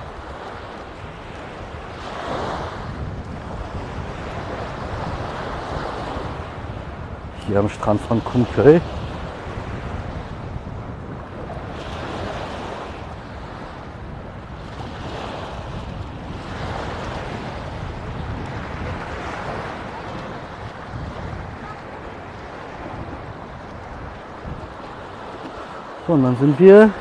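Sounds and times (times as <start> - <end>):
small waves breaking on shore: 0.0 - 27.0
wind rumbling on microphone: 0.0 - 27.0.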